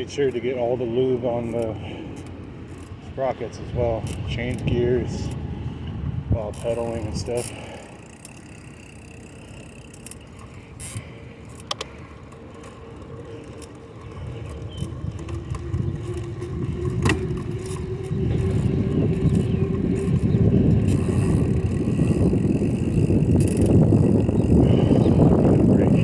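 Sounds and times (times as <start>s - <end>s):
bicycle clicks: 0.0s - 3.1s, 3.9s - 26.0s
road and wind rumble: 0.0s - 26.0s.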